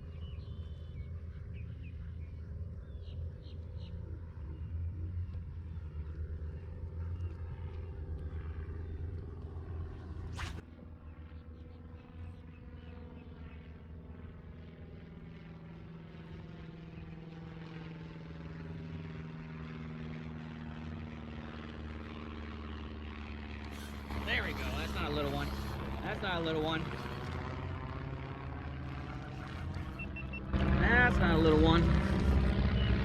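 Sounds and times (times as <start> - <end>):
engine droning: 0.0 - 33.0.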